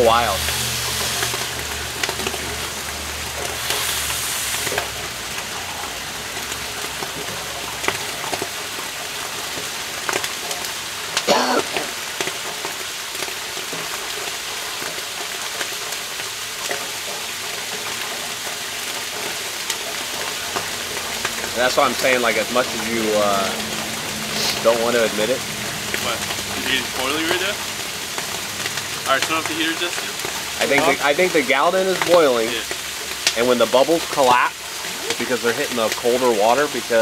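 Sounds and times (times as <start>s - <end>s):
water sizzling and sputtering: 0.0s - 37.0s.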